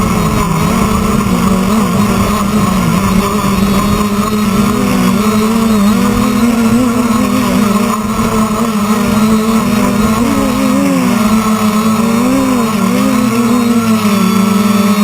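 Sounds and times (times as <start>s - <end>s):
quadcopter propellers buzzing: 0.0s - 15.0s.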